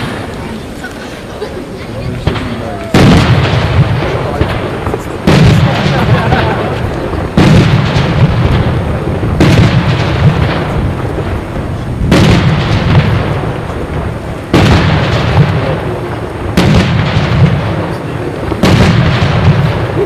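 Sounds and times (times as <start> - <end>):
fireworks bangs with rolling rumble: 0.0 - 20.0.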